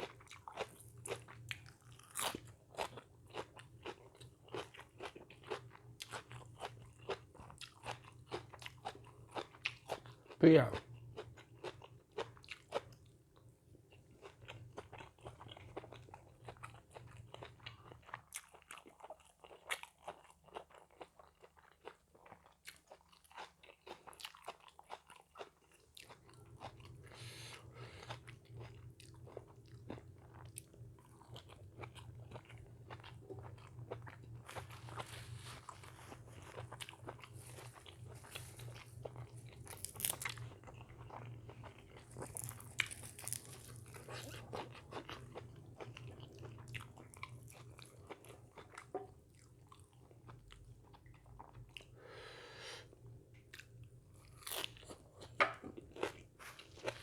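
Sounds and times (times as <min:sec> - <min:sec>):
person crunching and chewing: 0:00.0 - 0:10.4, 0:14.1 - 0:51.9, 0:53.6 - 0:57.0.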